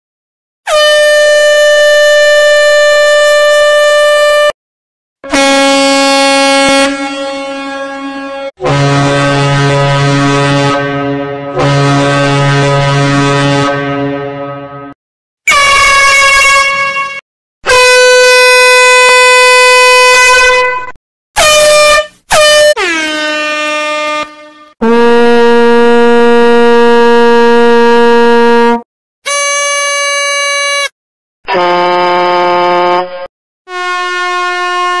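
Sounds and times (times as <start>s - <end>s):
high-pitched horn blast: 0.7s - 4.6s, 5.2s - 30.9s, 31.5s - 35.0s
lower-pitched horn: 0.7s - 4.6s, 5.2s - 30.9s, 31.5s - 35.0s.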